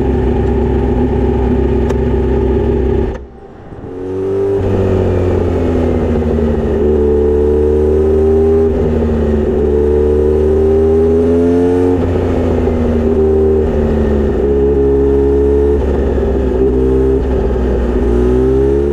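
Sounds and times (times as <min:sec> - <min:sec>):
motorcycle engine being ridden: 0:00.0 - 0:18.9.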